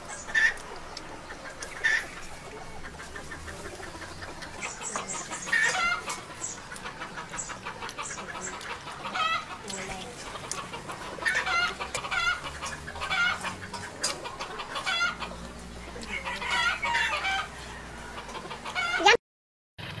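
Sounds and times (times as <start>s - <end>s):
hens clucking: 0.0s - 19.2s.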